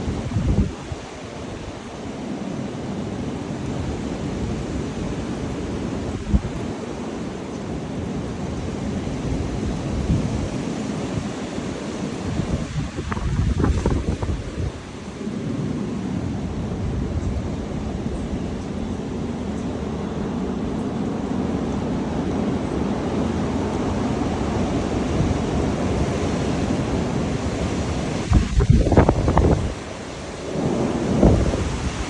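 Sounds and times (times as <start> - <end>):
strong wind buffeting microphone: 0.0 - 1.9, 3.3 - 7.0, 7.7 - 32.0.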